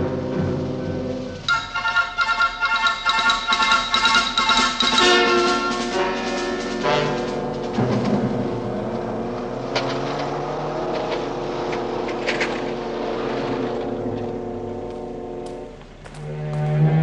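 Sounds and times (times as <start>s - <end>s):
engines droning: 0.0s - 17.0s.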